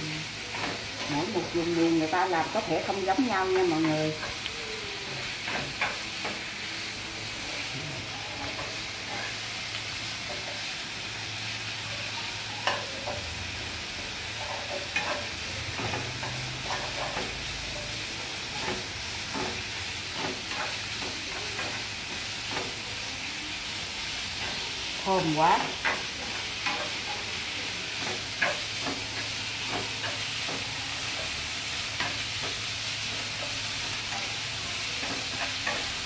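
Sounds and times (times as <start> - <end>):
meat sizzling in a frying pan: 0.0 - 36.0.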